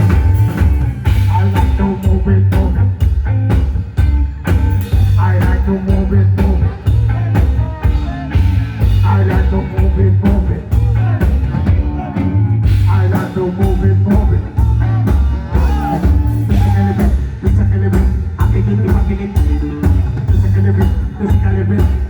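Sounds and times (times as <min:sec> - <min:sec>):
heavy bass line: 0:00.0 - 0:22.0
steady drum beat: 0:00.0 - 0:22.0
person singing: 0:01.1 - 0:03.1, 0:04.9 - 0:22.0.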